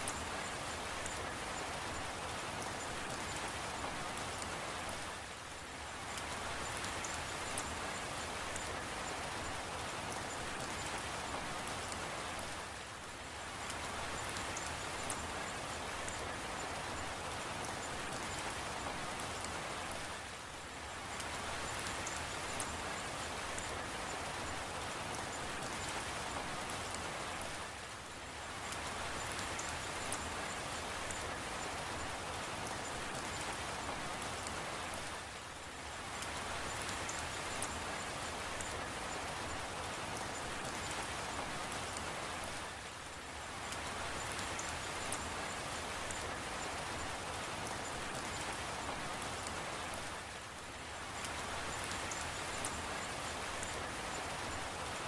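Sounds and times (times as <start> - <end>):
raindrop ticks: 0.0 - 5.2, 6.0 - 12.9, 13.6 - 20.2, 21.1 - 27.6, 28.6 - 35.4, 36.1 - 42.6, 43.2 - 50.4, 51.1 - 55.0
steady rainfall: 0.0 - 55.0.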